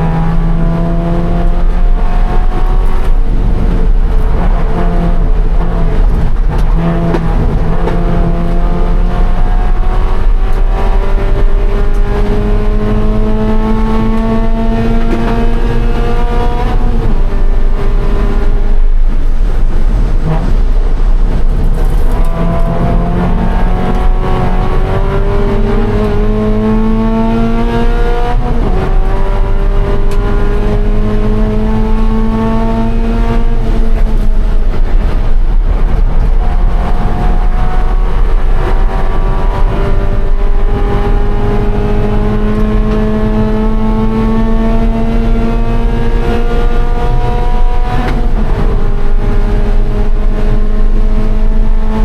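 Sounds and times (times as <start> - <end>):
car engine at full throttle: 0.0 - 52.0.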